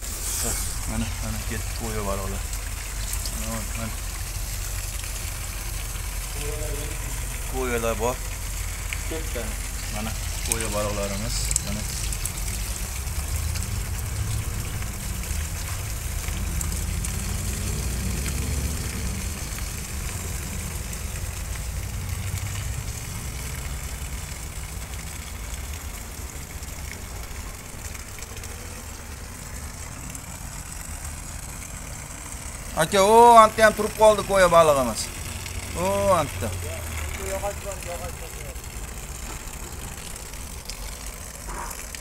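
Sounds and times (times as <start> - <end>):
truck engine idling: 0.0 - 17.7, 18.9 - 42.0
water spraying and running: 0.0 - 42.0.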